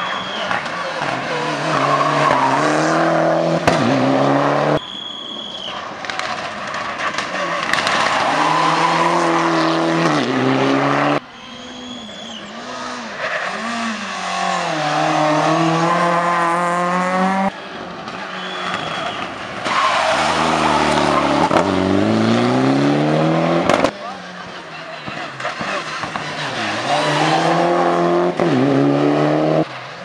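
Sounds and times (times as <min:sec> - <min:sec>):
rally car engines revving: 0:00.0 - 0:04.8, 0:05.8 - 0:30.0.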